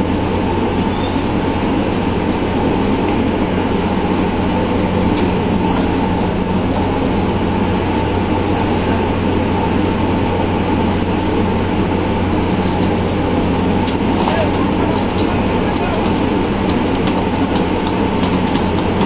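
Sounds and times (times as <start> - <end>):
boat engine drone: 0.0 - 19.0
water rushing along hull: 0.0 - 19.0.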